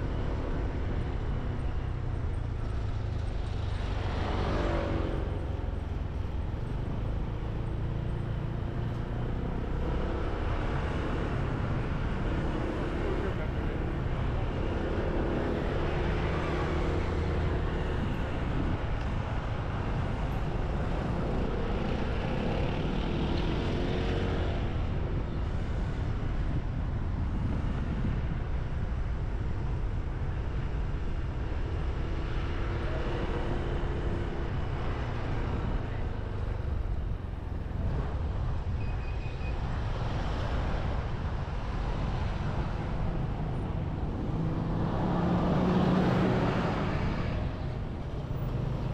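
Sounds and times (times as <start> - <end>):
passing traffic: 0.0 - 48.9.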